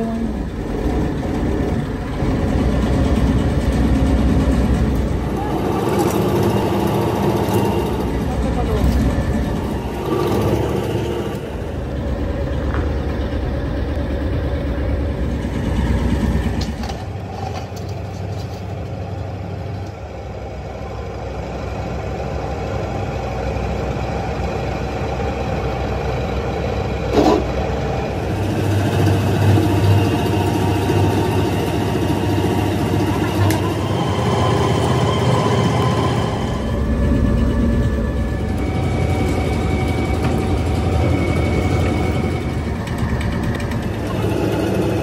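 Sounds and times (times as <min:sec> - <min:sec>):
rim rolling machine droning: 0:00.0 - 0:45.0.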